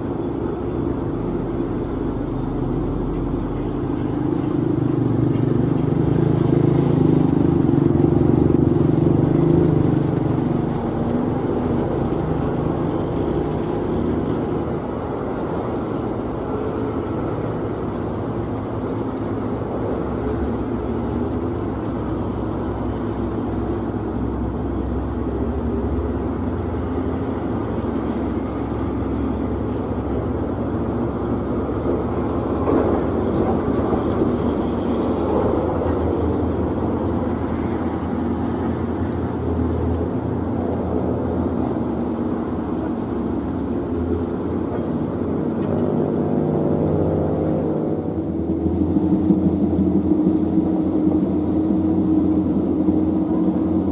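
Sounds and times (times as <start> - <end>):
heavy truck engine running: 0.0 - 53.9.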